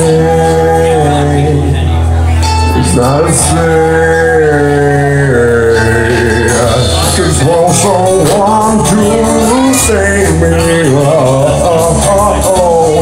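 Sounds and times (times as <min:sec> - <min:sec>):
karaoke backing track: 0:00.0 - 0:13.0.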